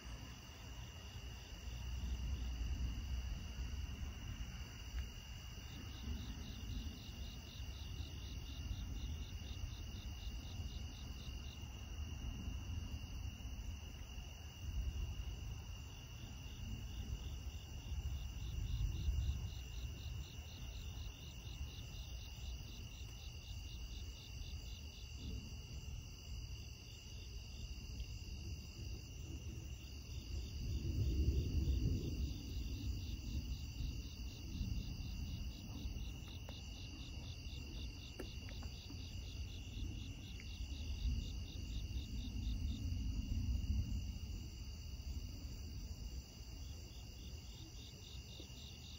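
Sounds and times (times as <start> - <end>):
distant thunder rumble: 0.0 - 26.3, 27.2 - 46.2
insects chirping: 0.0 - 48.9.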